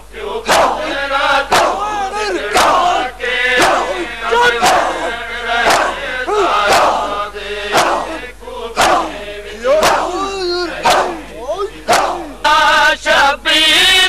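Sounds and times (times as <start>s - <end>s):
men chanting: 0.0s - 14.0s
men slapping chests: 0.5s - 12.4s.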